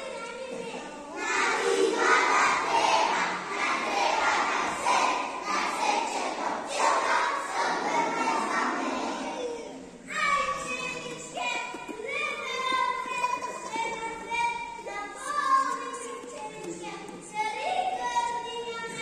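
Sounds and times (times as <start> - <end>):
children shouting and chattering: 0.0 - 19.0.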